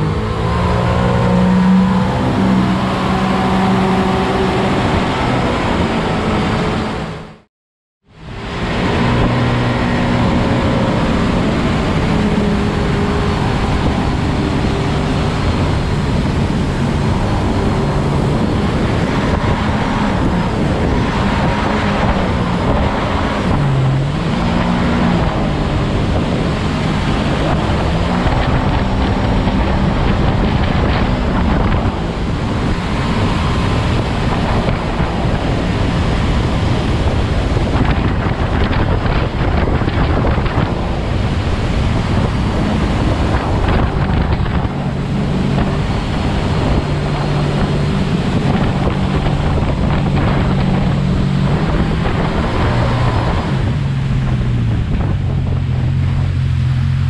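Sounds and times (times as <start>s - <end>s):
wind buffeting microphone: 0.0s - 7.4s, 8.1s - 57.0s
boat engine running: 0.0s - 57.0s
water rushing: 0.0s - 57.0s.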